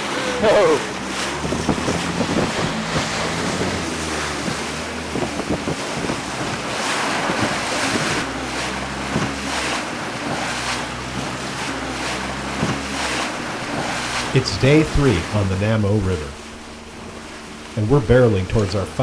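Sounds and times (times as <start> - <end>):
motorboat engine running: 0.0 - 19.0
water splashing against hull: 0.0 - 19.0
wind buffeting microphone: 0.0 - 19.0.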